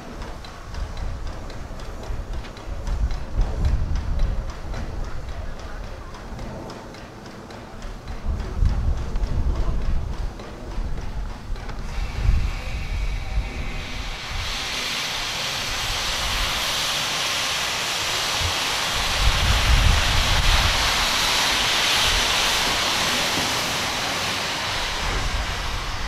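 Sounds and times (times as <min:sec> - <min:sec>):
steam hissing: 0:00.0 - 0:26.0.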